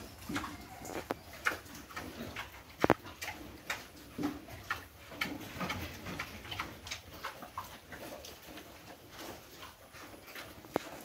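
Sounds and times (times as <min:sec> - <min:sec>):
piglets rooting among leaves: 0:00.0 - 0:11.0
pigs grunting softly: 0:00.0 - 0:11.0
trotters clicking on concrete: 0:00.0 - 0:11.0.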